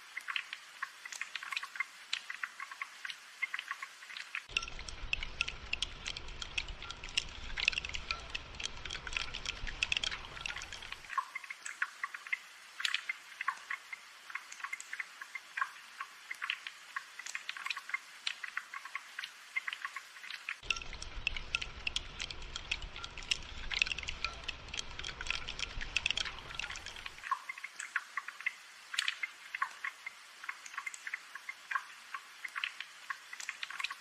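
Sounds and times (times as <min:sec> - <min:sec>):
drip ticks and taps: 0:00.0 - 0:34.0
steady rainfall: 0:00.0 - 0:34.0.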